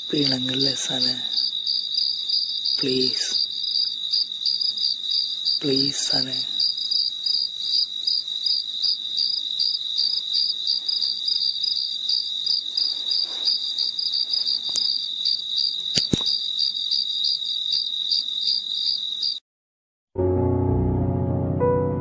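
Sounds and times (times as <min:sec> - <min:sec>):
crickets chirping: 0:00.0 - 0:19.4.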